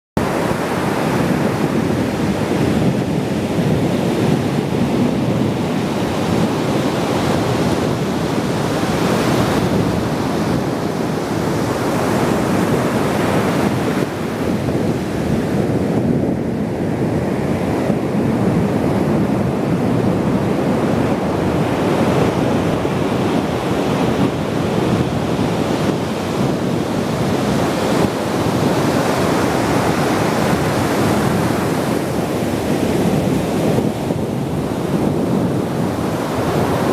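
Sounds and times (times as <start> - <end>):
ocean waves breaking: 0.2 - 36.9.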